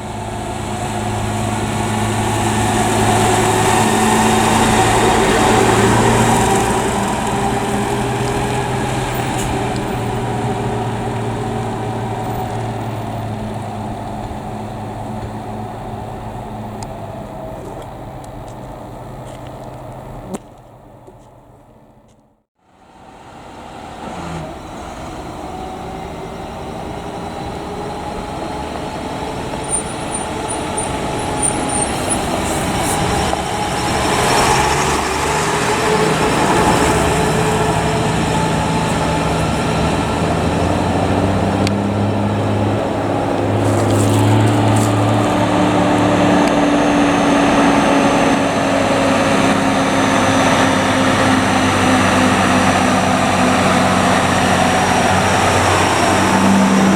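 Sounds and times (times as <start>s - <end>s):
heavy diesel truck engine: 0.0s - 56.9s.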